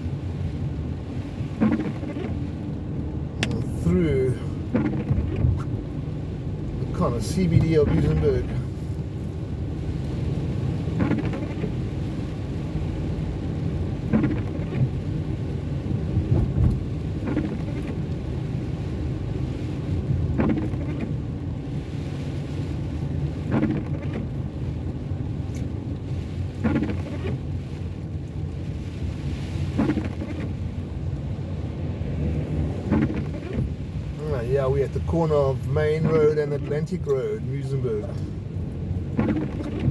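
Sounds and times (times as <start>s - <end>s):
engine and tyre rumble: 0.0s - 39.9s
windscreen wipers sweeping: 0.0s - 39.9s.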